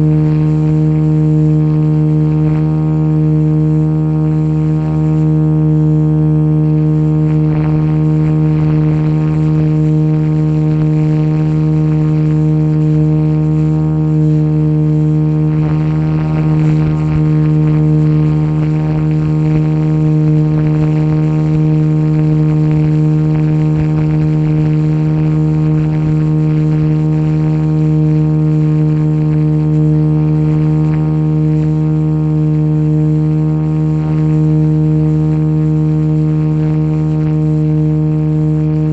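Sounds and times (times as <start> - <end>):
model helicopter buzzing drone: 0.0 - 38.9.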